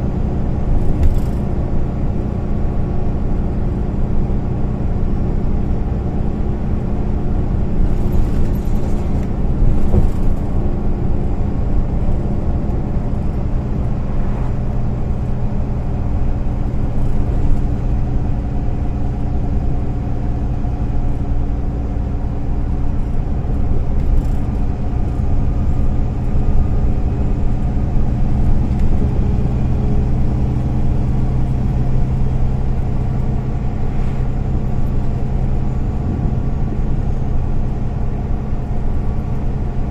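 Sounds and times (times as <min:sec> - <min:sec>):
bus engine running: 0:00.0 - 0:39.9
low road rumble: 0:00.0 - 0:39.9.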